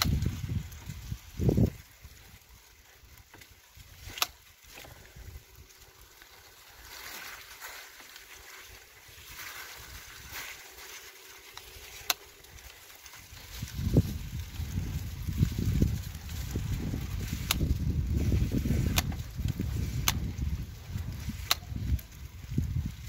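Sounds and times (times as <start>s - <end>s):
bicycle tyres rolling through slush: 0.0s - 23.0s.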